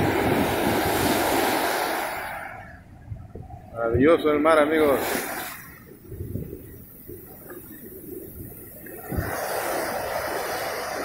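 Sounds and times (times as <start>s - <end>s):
ocean surf breaking: 0.0s - 3.0s, 3.9s - 11.0s
wind buffeting microphone: 0.0s - 11.0s.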